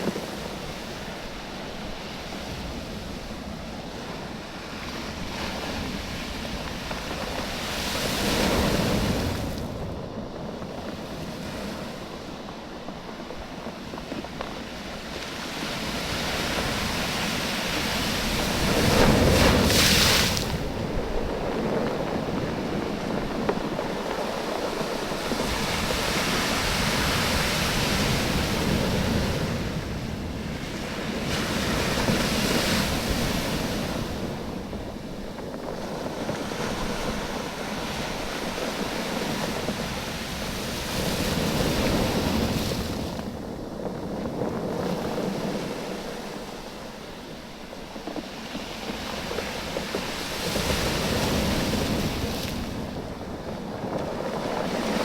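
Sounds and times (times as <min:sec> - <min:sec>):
sea waves surging on a beach: 0:00.0 - 0:55.0.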